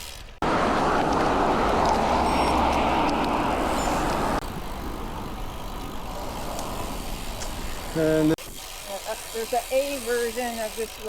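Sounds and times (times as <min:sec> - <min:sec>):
rushing road noise: 0:00.0 - 0:11.0.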